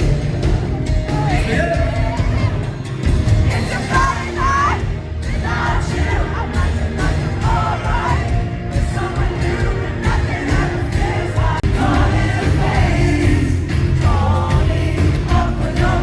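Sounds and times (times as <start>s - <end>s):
crowd singing along: 0.0s - 16.0s
lead vocal singing: 0.0s - 16.0s
live pop band music: 0.0s - 16.0s.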